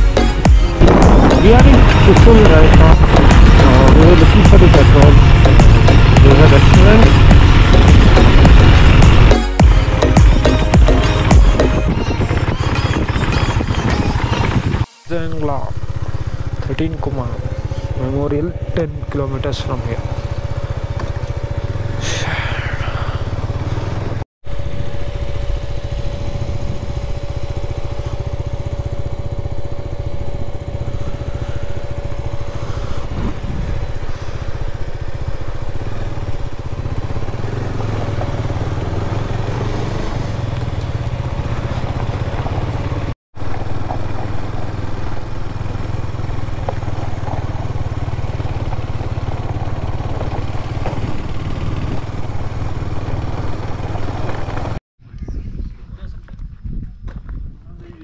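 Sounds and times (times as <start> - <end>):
motorcycle engine droning: 0.0 - 55.3.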